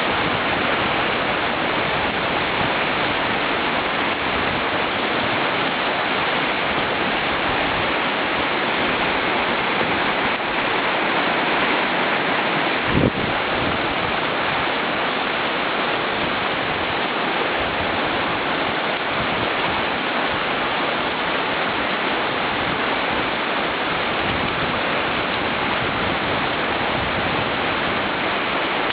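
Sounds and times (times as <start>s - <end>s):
river rapids rushing: 0.0s - 28.9s.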